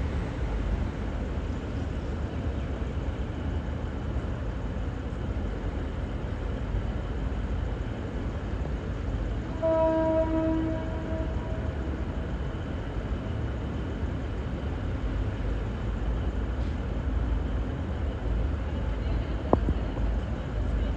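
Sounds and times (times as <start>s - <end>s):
diesel train rumbling: 0.0s - 20.9s.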